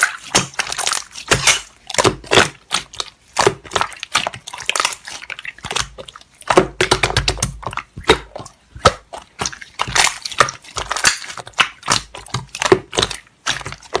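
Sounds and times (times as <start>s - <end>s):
slime squelching: 0.0s - 14.0s.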